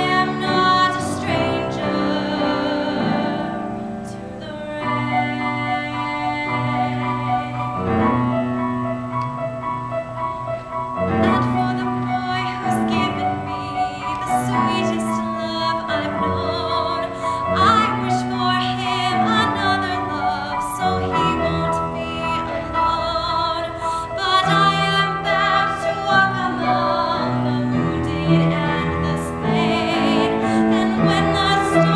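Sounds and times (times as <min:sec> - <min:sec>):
woman singing a ballad: 0:00.0 - 0:08.3, 0:11.2 - 0:31.9
piano accompaniment: 0:00.0 - 0:31.9.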